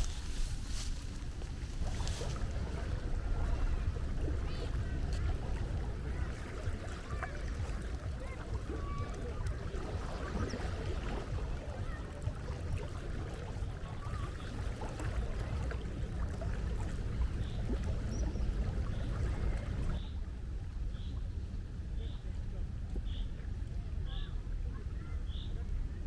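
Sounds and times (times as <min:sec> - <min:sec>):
low seaside rumble: 0:00.0 - 0:26.0.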